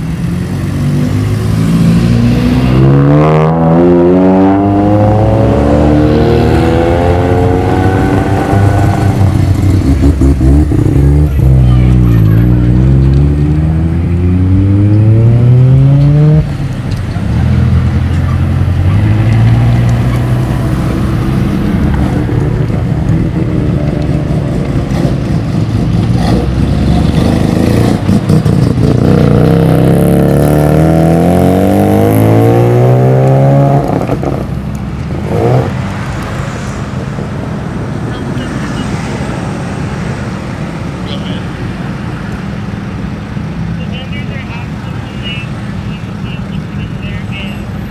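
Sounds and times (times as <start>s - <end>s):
car engines accelerating: 0.0s - 47.9s.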